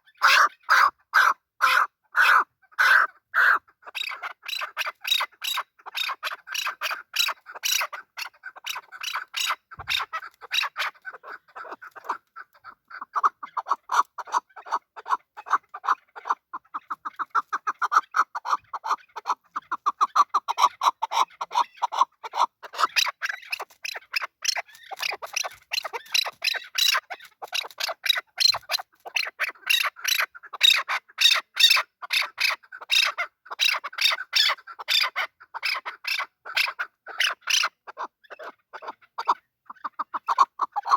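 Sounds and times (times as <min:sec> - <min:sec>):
partridge calling: 0:00.0 - 0:40.9.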